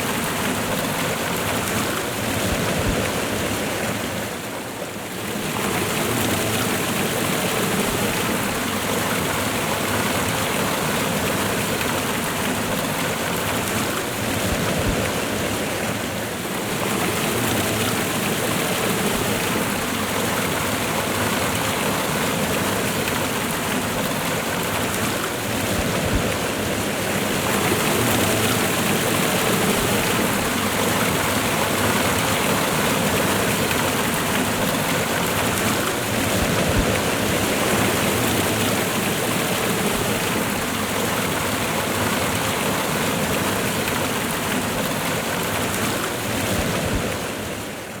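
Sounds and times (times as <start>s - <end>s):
waterfall and rushing river: 0.0s - 48.0s.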